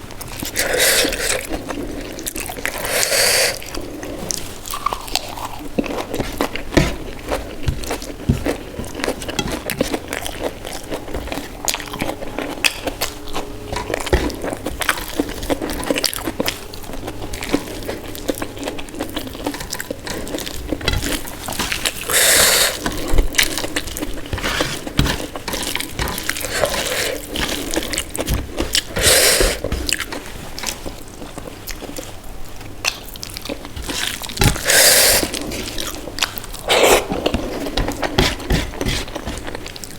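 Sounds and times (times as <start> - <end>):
chewing and mouth smacking: 0.2 - 39.9.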